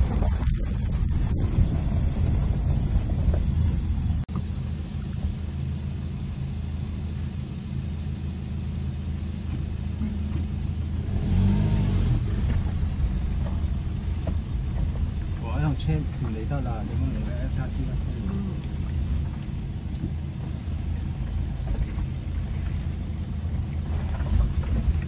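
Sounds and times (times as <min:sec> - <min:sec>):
car engine running at low speed: 0:00.0 - 0:25.0.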